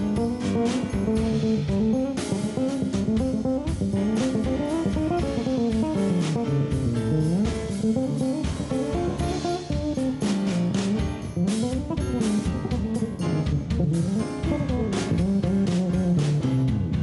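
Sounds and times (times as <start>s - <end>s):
jazz band playing: 0.0s - 17.0s.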